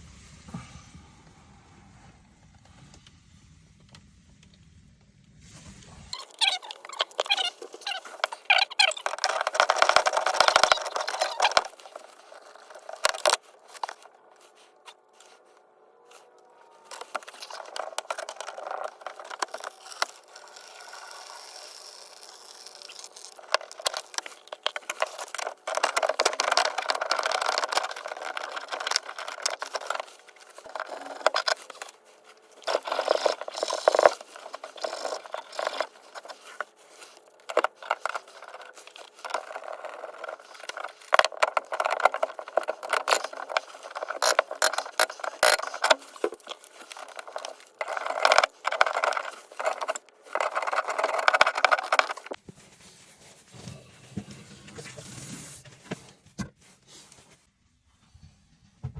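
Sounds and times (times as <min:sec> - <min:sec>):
objects scraping and rattling: 0:05.4 - 0:58.9.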